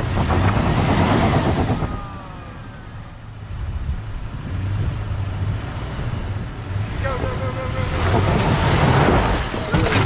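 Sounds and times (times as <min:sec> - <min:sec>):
suv engine running at low revs: 0:00.0 - 0:10.0.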